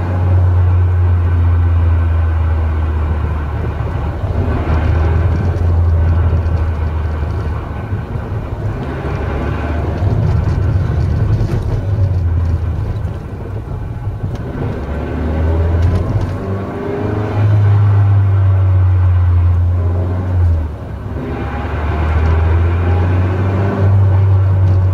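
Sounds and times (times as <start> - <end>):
car engine while driving: 0.0 - 24.9.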